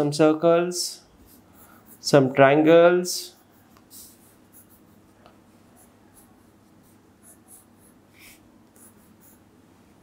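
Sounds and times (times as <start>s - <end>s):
pencil scratching on paper: 1.2s - 9.5s.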